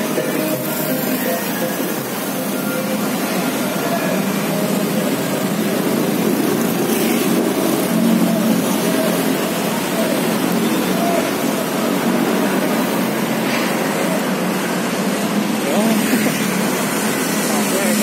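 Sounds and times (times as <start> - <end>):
traffic driving past: 0.0 - 18.0
motorbike passing close: 3.2 - 18.0.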